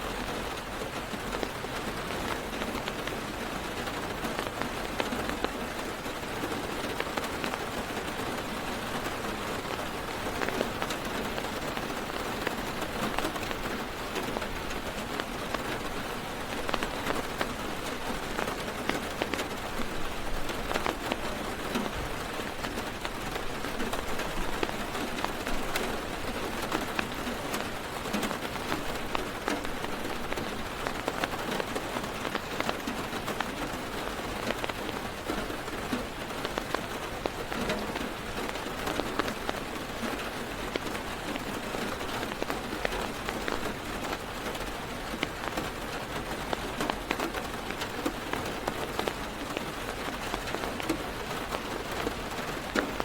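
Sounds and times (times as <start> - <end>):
heavy rain on car roof: 0.0 - 53.0.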